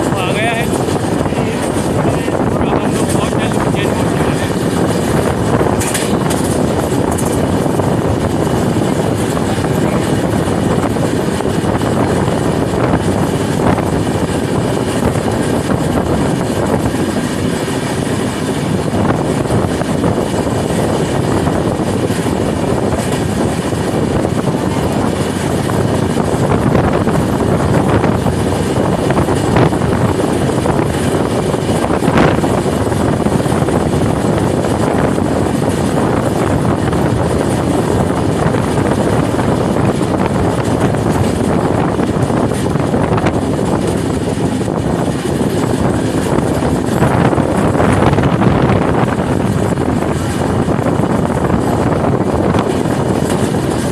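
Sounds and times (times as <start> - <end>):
train wheels and air rushing: 0.0 - 53.9.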